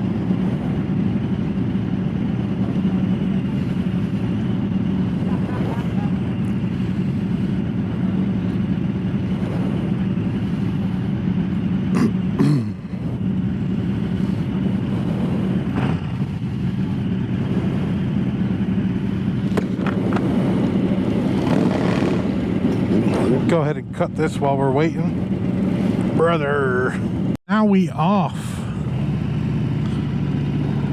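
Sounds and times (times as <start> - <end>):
motorcycle engine idling: 0.0 - 23.0, 26.4 - 30.9.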